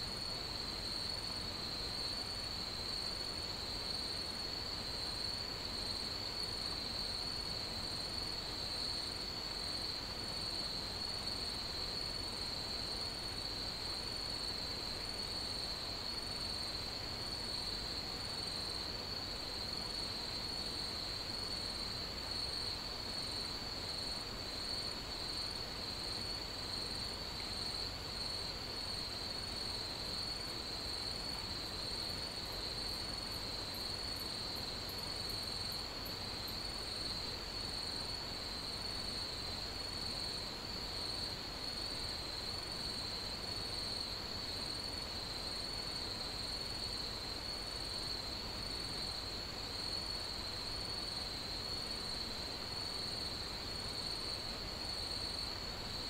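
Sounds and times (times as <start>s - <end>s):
steady hiss: 0.0s - 56.0s
crickets trilling: 0.2s - 56.0s.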